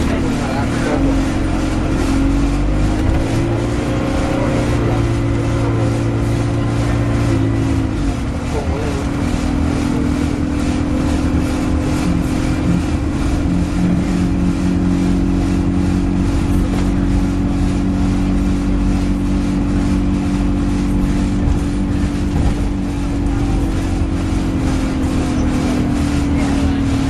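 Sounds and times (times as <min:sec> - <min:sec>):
bus engine drone: 0:00.0 - 0:27.0.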